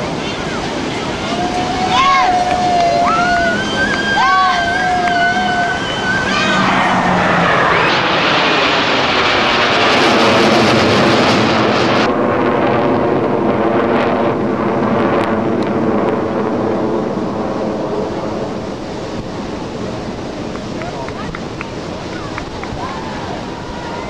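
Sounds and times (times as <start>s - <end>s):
jets roaring overhead: 0.0s - 24.0s.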